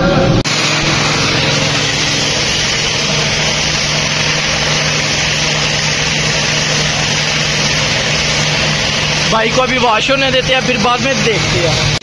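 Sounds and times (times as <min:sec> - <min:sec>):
pump motor humming: 0:00.0 - 0:12.0
water jet hissing: 0:00.4 - 0:12.0.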